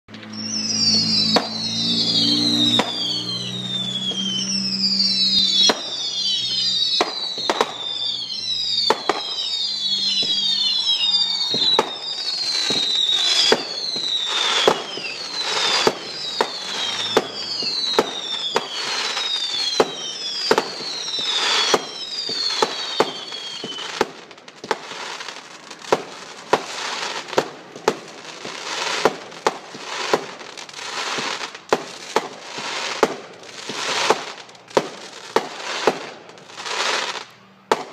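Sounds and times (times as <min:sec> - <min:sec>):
firework bangs: 0:00.1 - 0:37.9
firework crackle: 0:00.1 - 0:37.9
whistling firework shots: 0:00.1 - 0:37.9.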